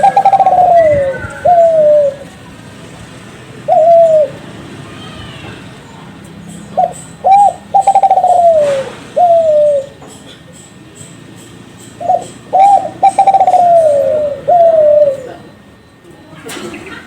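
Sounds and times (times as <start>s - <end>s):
dove cooing: 0.0s - 10.3s, 11.9s - 17.0s.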